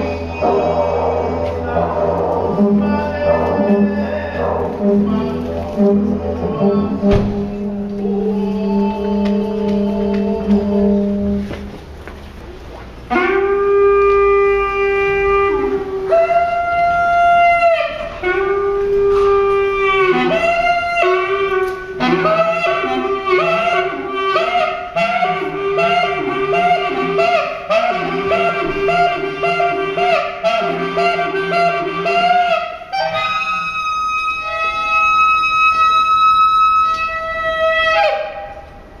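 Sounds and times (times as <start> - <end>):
small reed wind instrument playing: 0.0 - 11.7, 13.1 - 38.8.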